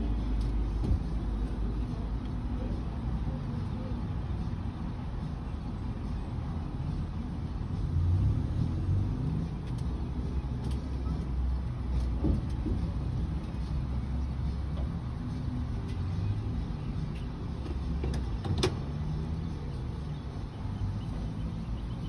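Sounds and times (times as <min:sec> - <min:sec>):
vehicle cabin rumble: 0:00.0 - 0:22.0.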